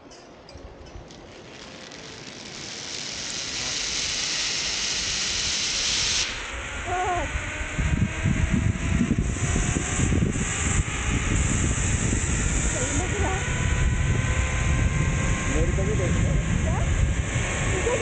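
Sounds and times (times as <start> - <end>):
zip-line trolley running on cable: 0.8 - 18.0
wind rushing over microphone: 3.2 - 18.0.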